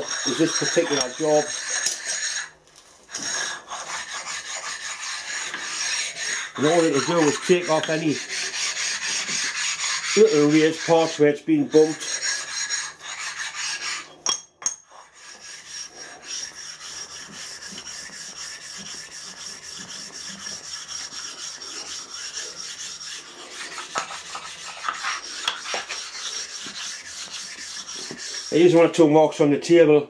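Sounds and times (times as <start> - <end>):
stone scraping steel table: 0.0 - 28.8.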